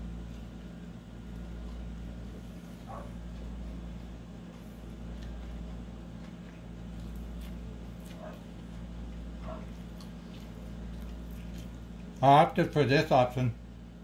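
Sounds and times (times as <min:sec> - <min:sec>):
taco crunching being chewed: 0:00.0 - 0:13.2
low mechanical hum: 0:00.0 - 0:14.0.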